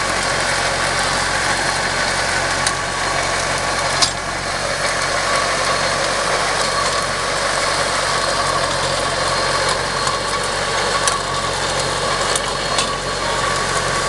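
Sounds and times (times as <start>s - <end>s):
rotary harrow working soil: 0.0s - 14.0s
tractor engine running: 0.0s - 14.0s.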